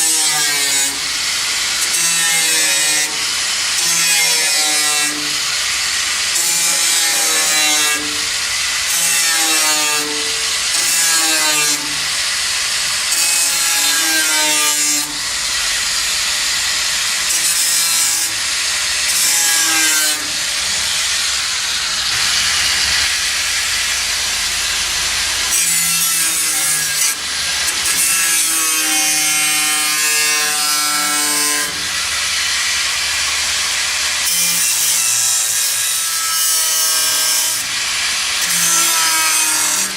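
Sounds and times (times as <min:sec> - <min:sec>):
saw cutting: 0:00.0 - 0:39.9.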